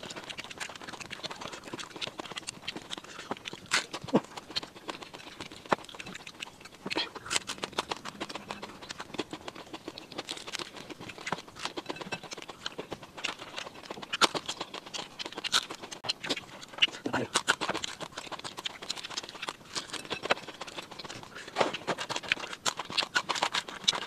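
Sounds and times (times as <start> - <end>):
chewing with lip smacks: 0.0 - 24.0
crunchy clicks and crackles: 0.0 - 24.0.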